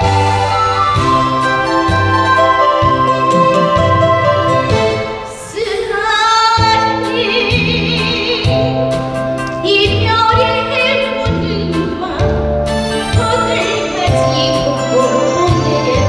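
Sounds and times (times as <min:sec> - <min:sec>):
woman singing with vibrato: 0:00.0 - 0:08.8, 0:09.6 - 0:16.0
karaoke backing track: 0:00.0 - 0:16.0.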